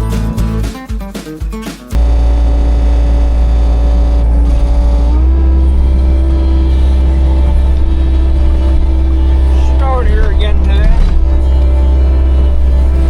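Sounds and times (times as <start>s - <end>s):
loader engine running: 2.0s - 13.0s.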